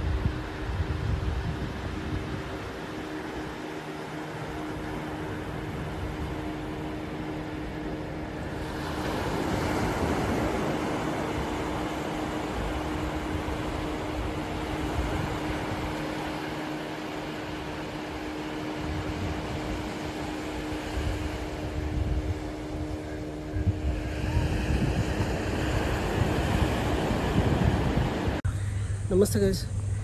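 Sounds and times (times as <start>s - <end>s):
surf washing onto beach: 0.0s - 28.4s
wind buffeting microphone: 0.0s - 28.4s
motor hum: 0.0s - 30.0s.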